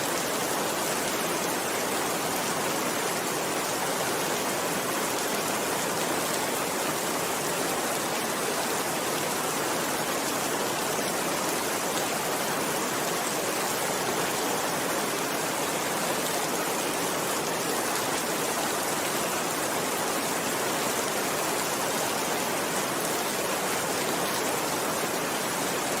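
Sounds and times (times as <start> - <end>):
steady rainfall hiss: 0.0 - 26.0.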